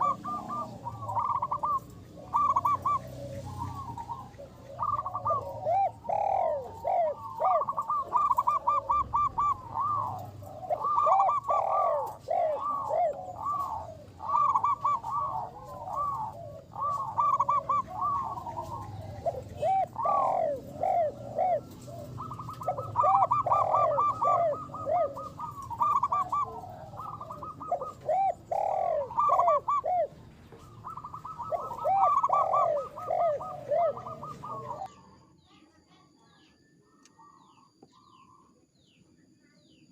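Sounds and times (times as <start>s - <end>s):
dove cooing: 0.0s - 35.5s.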